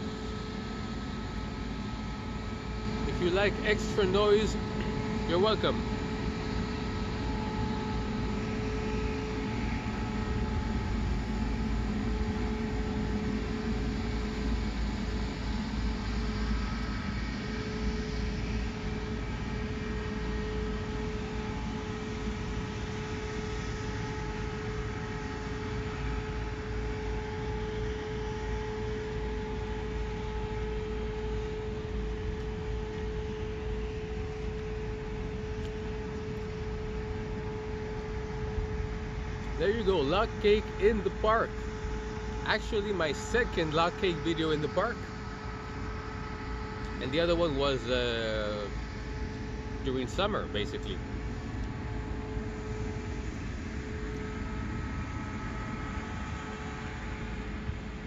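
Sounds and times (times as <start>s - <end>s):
constant humming tone: 0.0s - 58.0s.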